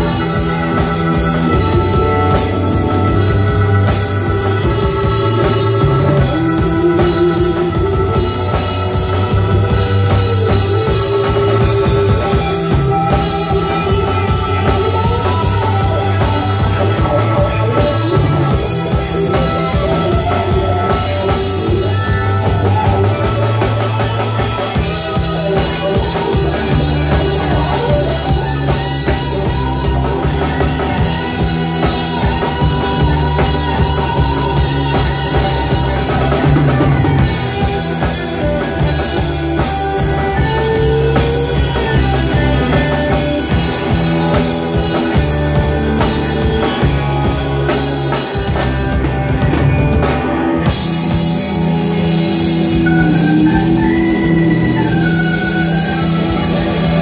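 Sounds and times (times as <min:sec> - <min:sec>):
bass guitar: 0:00.0 - 0:57.0
drum kit: 0:00.0 - 0:57.0
electric guitars: 0:00.0 - 0:57.0
electric keyboard: 0:00.0 - 0:57.0.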